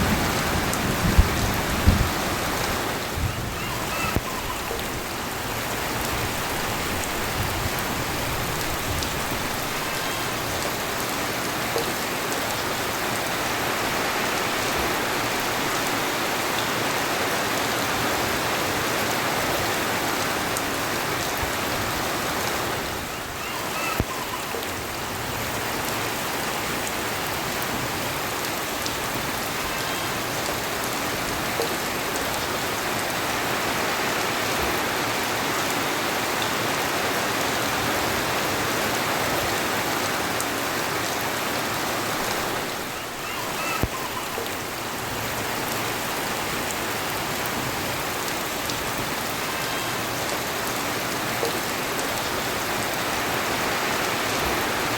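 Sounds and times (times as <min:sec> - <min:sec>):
heavy rain pattering: 0:00.0 - 0:54.9.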